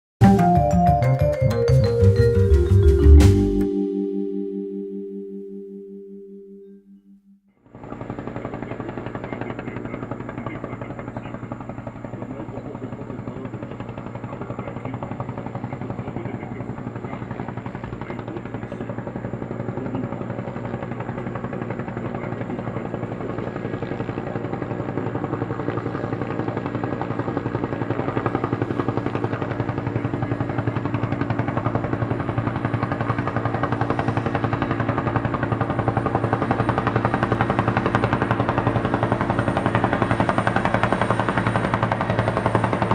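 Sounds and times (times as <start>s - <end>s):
helicopter rotor beating: 7.7s - 42.9s.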